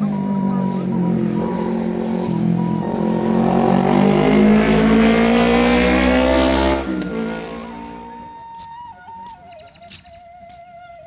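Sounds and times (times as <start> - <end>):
vehicle engine accelerating: 0.0 - 9.3.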